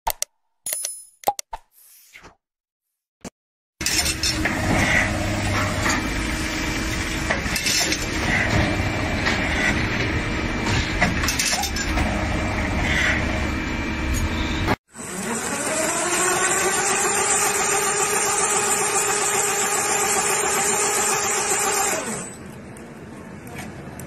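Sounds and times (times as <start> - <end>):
wire-bending machine clatter and hum: 3.8 - 24.0.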